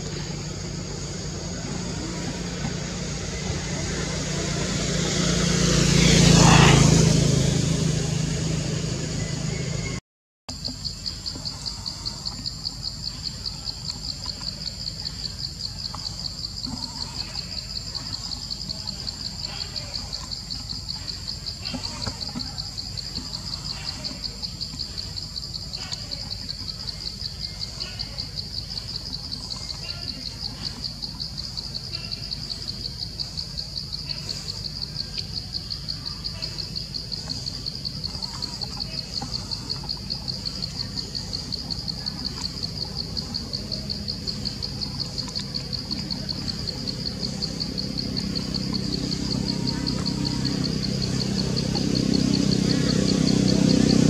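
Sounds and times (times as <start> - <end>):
high-pitched insect trill: 10.5 - 54.0.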